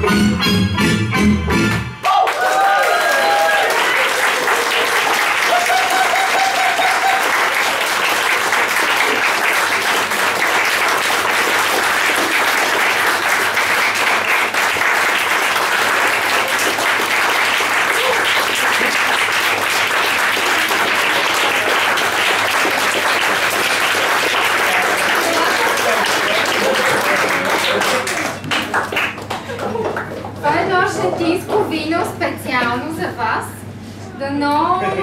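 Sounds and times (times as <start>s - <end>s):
audience applauding: 2.0s - 30.4s.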